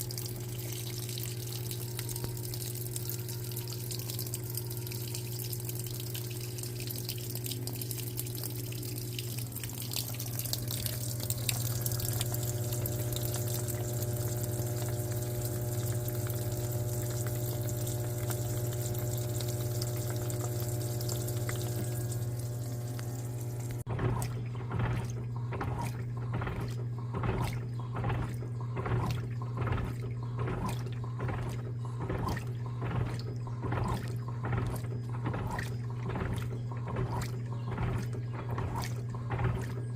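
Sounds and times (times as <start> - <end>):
agitator churning water: 0.0 - 39.9
steady low hum: 0.0 - 39.9
washing machine filling with water: 0.0 - 39.9.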